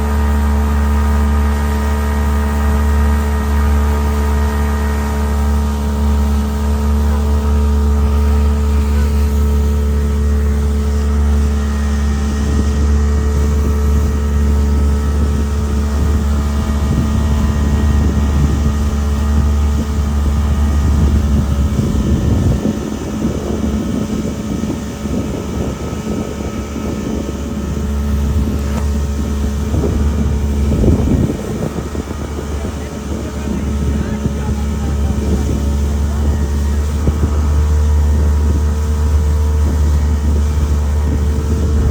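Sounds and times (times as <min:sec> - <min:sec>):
boat motor humming: 0:00.0 - 0:41.9
water noise: 0:00.0 - 0:41.9
wind buffeting microphone: 0:00.0 - 0:41.9.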